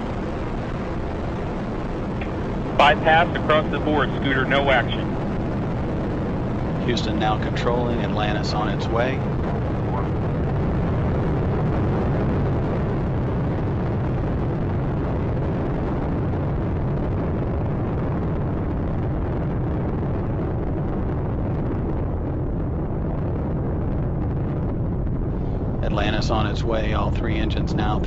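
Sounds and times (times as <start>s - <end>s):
rocket engines rumbling: 0.0s - 28.0s.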